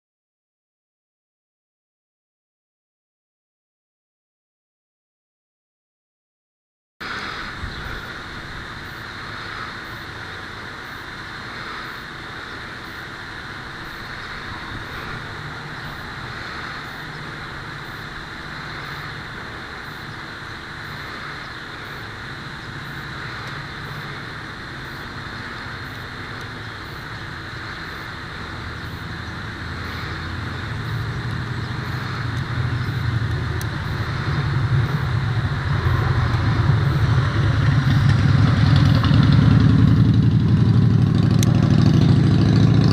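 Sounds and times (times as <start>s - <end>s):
low engine drone: 7.0s - 42.9s.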